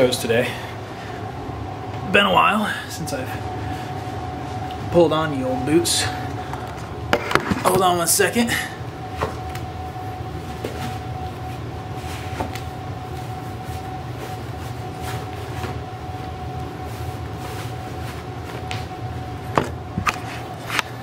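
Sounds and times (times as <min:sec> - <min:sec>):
low hum with steady tone: 0:00.0 - 0:21.0.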